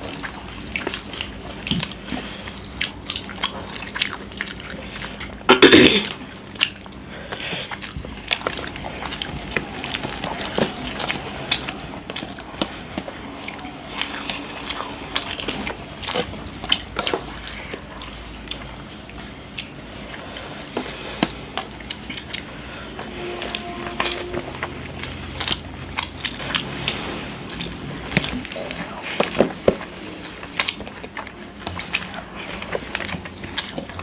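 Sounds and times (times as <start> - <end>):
people chewing chicken: 0.0 - 34.0.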